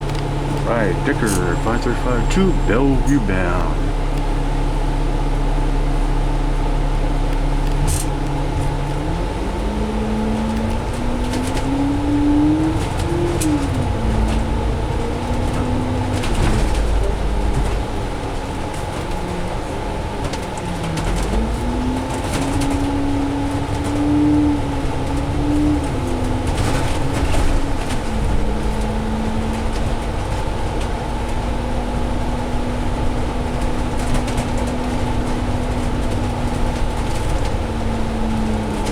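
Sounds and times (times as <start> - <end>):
bus engine accelerating: 0.0 - 38.9.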